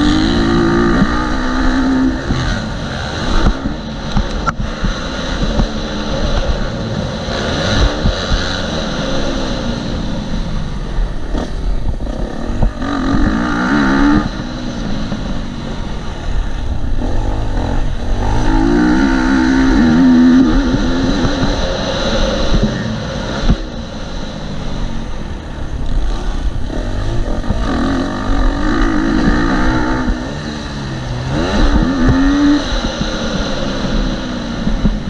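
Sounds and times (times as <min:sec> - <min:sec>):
motocross engine revving: 0:00.0 - 0:35.0
wind rumble on microphone: 0:00.0 - 0:35.0.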